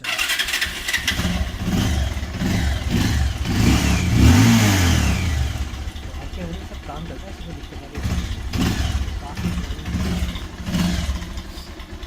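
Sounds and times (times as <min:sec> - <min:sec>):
electric starter cranking: 0:00.0 - 0:12.0
motorcycle engine revving: 0:00.0 - 0:12.0.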